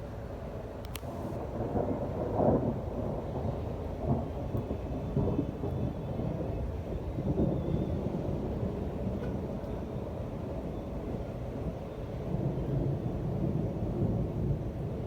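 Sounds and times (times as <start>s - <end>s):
thunder rumbling: 1.0s - 15.0s.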